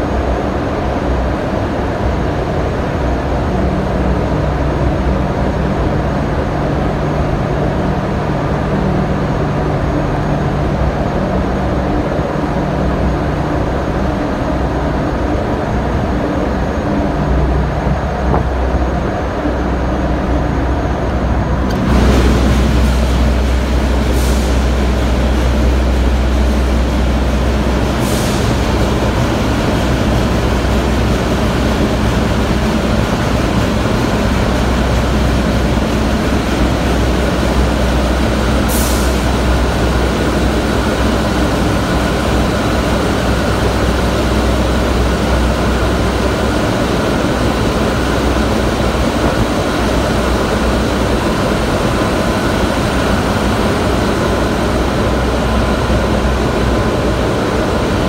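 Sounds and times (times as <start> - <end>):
engine room machinery noise: 0.0 - 58.0
deep hum: 3.0 - 58.0.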